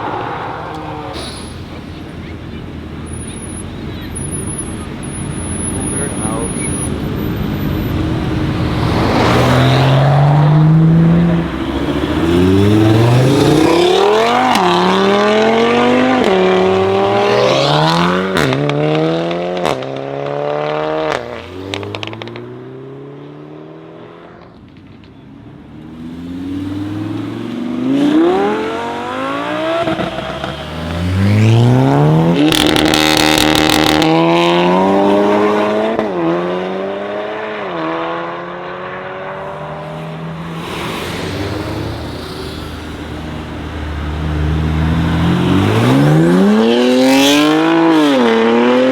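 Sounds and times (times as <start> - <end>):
cars accelerating hard: 0.0 - 24.6, 25.6 - 48.9.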